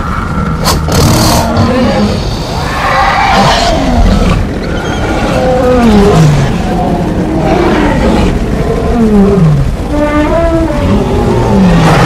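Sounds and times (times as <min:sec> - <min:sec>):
animal roars sliding down: 0:00.0 - 0:12.0
low rumble of running animals: 0:00.0 - 0:12.0.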